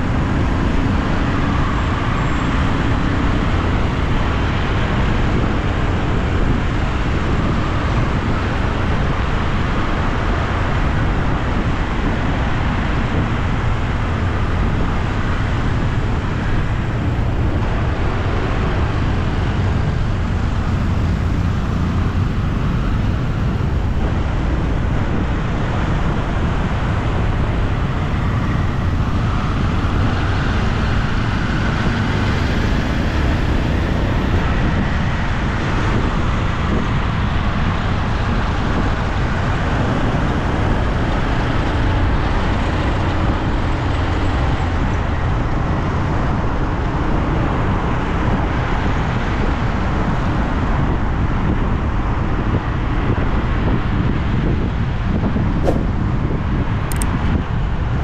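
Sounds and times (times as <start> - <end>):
road traffic noise: 0.0 - 58.0.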